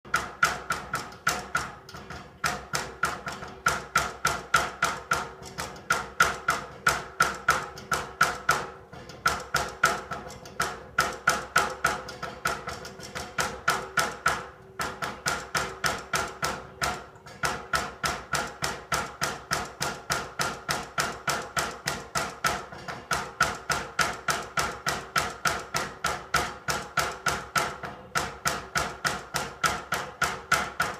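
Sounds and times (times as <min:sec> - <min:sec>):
knocking on heating pipes: 0:00.1 - 0:30.9.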